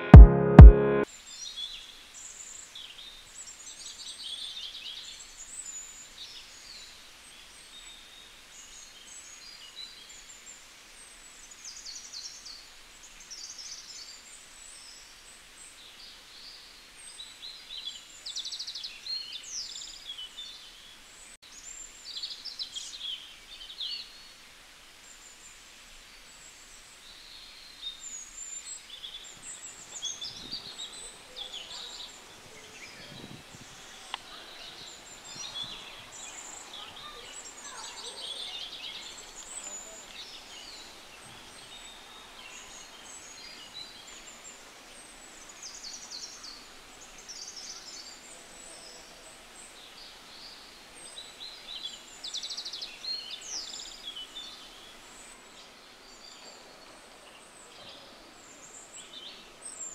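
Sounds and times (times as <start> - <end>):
outdoor background noise: 1.0 - 59.9
small birds chirping: 1.4 - 59.9.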